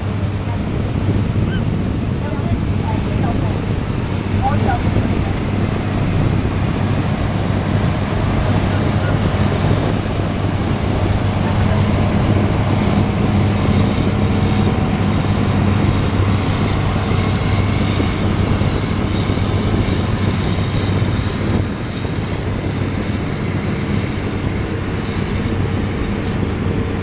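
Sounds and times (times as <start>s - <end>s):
motorboat engine running: 0.0s - 27.0s
water noise: 0.0s - 27.0s
wind: 0.0s - 27.0s.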